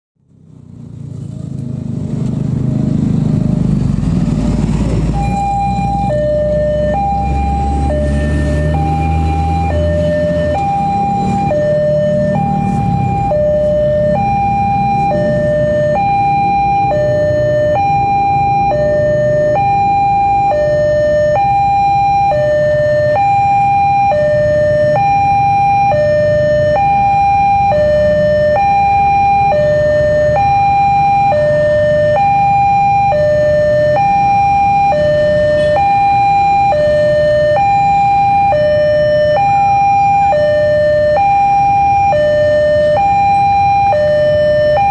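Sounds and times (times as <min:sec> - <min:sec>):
two-tone level crossing alarm: 0:05.1 - 0:44.9.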